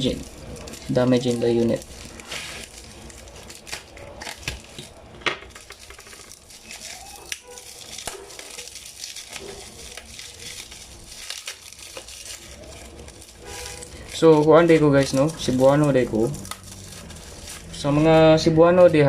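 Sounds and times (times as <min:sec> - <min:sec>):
bubble wrap crackles: 0:00.0 - 0:19.0
bubble wrap crinkling: 0:00.0 - 0:19.0.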